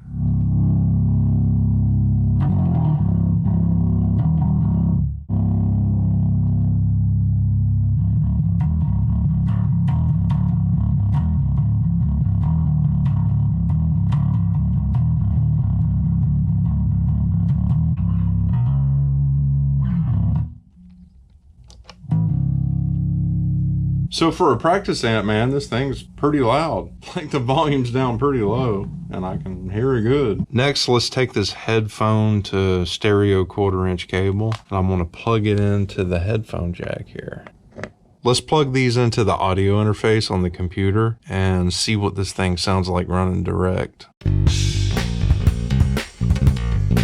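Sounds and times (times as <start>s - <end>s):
electric bass riffs: 0.0s - 37.6s, 44.2s - 47.0s.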